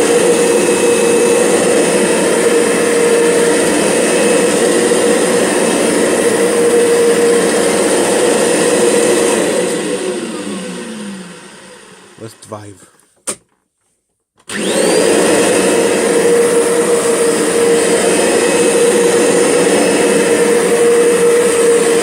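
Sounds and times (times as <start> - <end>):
vacuum cleaner motor running: 0.0 - 12.5, 14.5 - 22.0.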